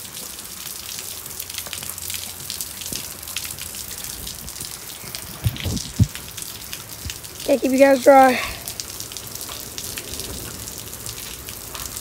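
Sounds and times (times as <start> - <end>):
rain hissing on concrete: 0.0 - 12.0
raindrops ticking: 0.0 - 12.0.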